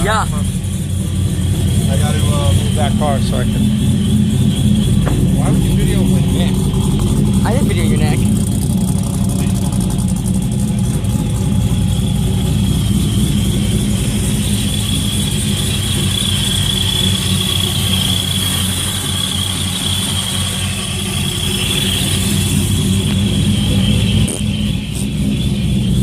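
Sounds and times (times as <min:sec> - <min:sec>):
car engine idling: 0:00.0 - 0:26.0
high-pitched whine: 0:00.0 - 0:26.0.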